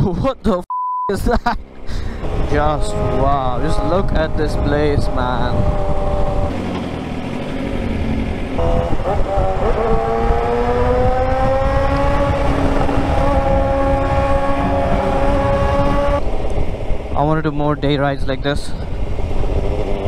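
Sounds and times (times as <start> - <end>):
wind and road noise: 0.0 - 20.0
motorcycle engine accelerating: 1.6 - 17.2, 18.9 - 20.0.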